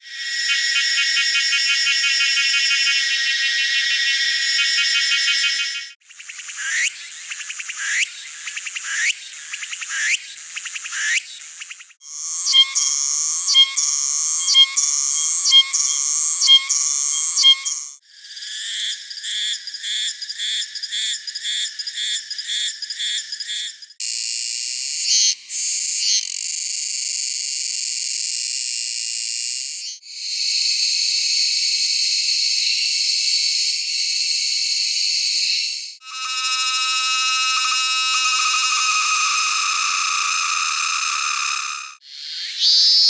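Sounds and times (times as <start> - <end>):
high-pitched cicada buzzing: 0.0 - 30.5, 36.0 - 43.0
cicada song with ringing tones: 0.0 - 43.0
pulsing cicada song: 0.0 - 43.0.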